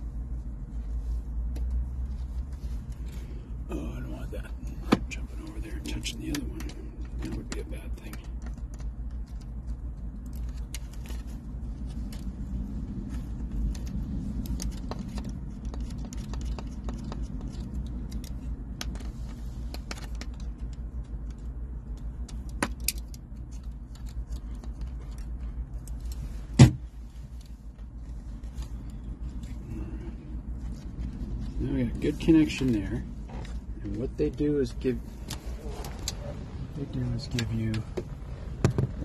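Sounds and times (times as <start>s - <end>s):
low steady rumble: 0.0s - 39.0s.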